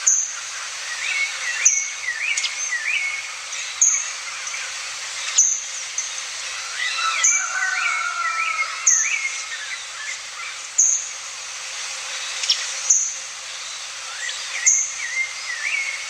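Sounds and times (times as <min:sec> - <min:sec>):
birds singing and chirping: 0:00.0 - 0:11.3, 0:12.0 - 0:16.0
steady background hiss: 0:00.0 - 0:16.0.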